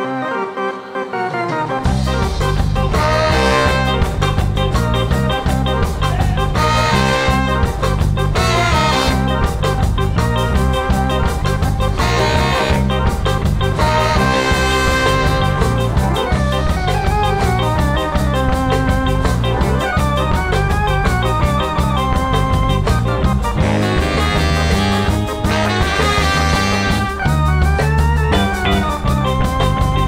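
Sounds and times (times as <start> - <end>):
trumpet and saxophone horns: 0.0 - 4.9, 5.8 - 20.1, 22.8 - 29.8
guitars: 0.0 - 30.0
keyboard: 0.0 - 30.0
drum kit beat: 1.6 - 30.0.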